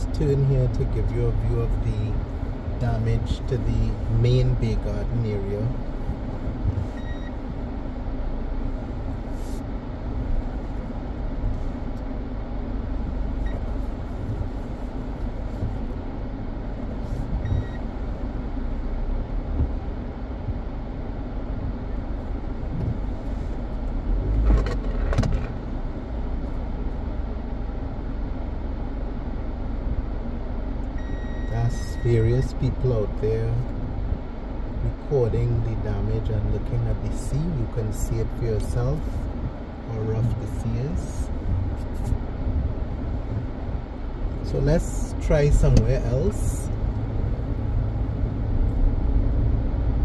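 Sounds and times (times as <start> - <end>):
car engine and tyre noise: 0.0 - 50.0.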